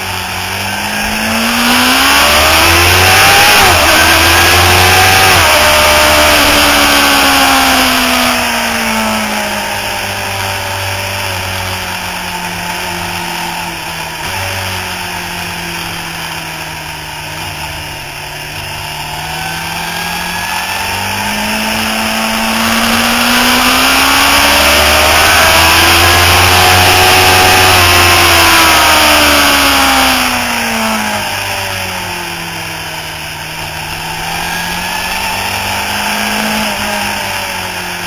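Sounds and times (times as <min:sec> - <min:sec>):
motorcycle engine: 0:00.0 - 0:38.0.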